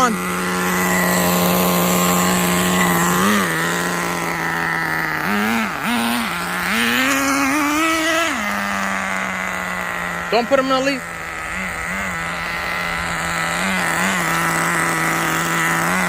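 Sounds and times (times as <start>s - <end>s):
small engine idling and revving: 0.0s - 16.0s.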